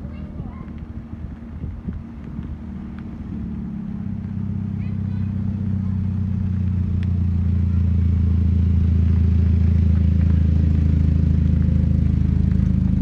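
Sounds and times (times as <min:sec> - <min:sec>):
truck engine low rumble: 0:00.0 - 0:13.0.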